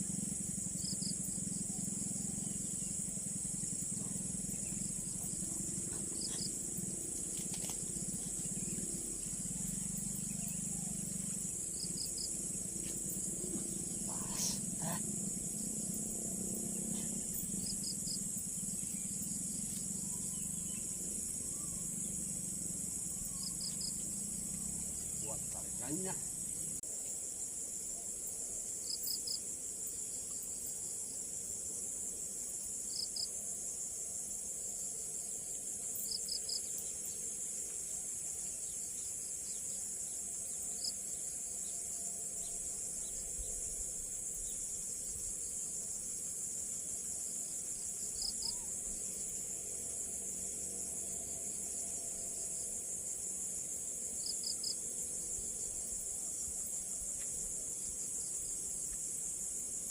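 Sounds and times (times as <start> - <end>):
short insect chirps: 0.0 - 27.2, 34.5 - 59.9
insect chorus: 0.0 - 59.9.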